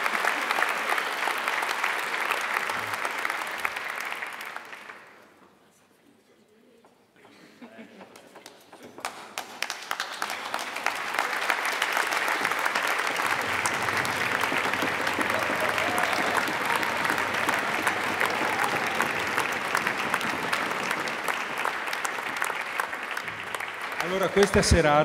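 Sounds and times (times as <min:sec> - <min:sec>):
audience applauding: 0:00.0 - 0:05.3, 0:08.0 - 0:25.0.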